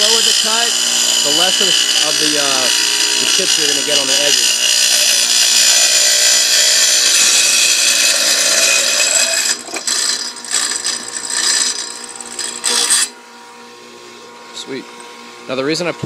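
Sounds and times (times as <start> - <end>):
saw grinding through glass: 0.0 - 13.2.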